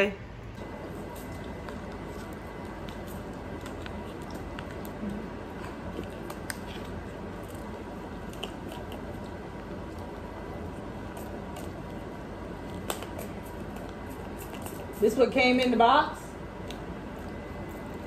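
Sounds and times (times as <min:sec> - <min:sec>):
steady room hum: 0:00.0 - 0:18.0.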